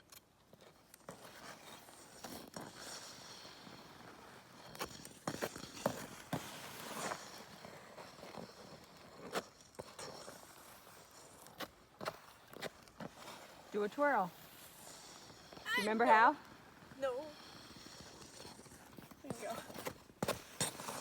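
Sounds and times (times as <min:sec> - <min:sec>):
ice skate blades scraping ice: 0:00.1 - 0:21.0.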